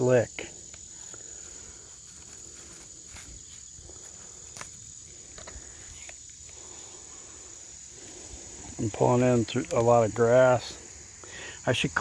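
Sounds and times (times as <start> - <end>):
crickets trilling: 0.0 - 12.0
faint rustles: 0.4 - 11.4.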